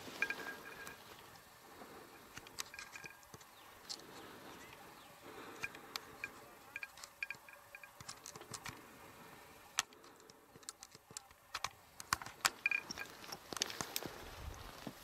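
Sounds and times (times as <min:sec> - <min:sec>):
dry grass crackling underfoot: 0:00.0 - 0:15.0.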